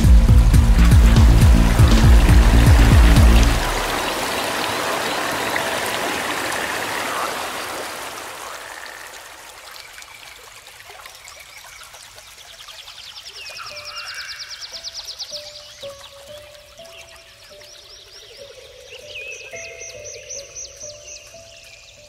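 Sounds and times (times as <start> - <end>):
flowing water hiss: 0.0 - 22.0.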